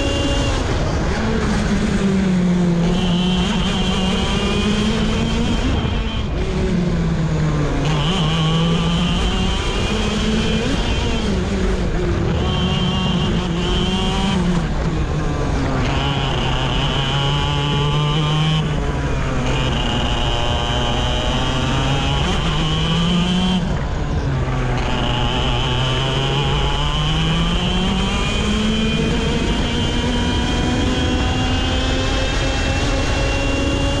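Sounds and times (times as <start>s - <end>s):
kart engine racing: 0.0s - 34.0s.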